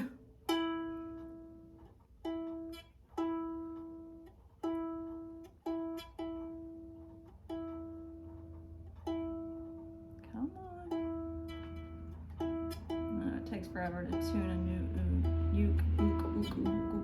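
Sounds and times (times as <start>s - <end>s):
ukulele string plucked: 0.0s - 17.0s.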